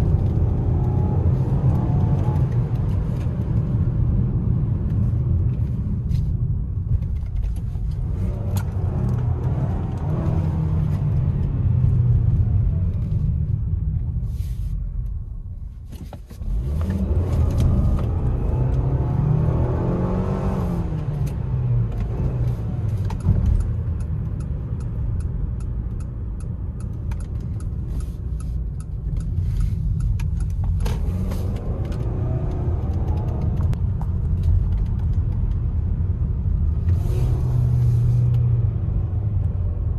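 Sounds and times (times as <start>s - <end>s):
car engine: 0.0s - 39.9s
tire and road noise: 0.0s - 39.9s.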